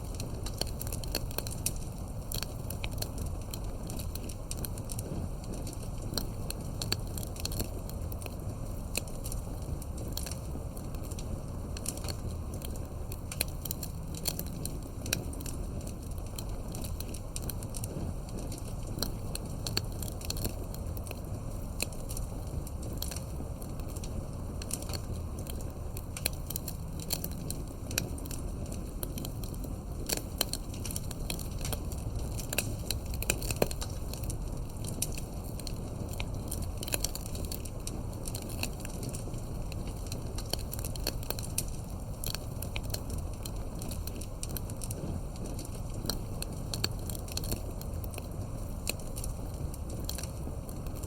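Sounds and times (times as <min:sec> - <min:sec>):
low fire rumble: 0:00.0 - 0:51.0
wood fire crackling: 0:00.0 - 0:51.0.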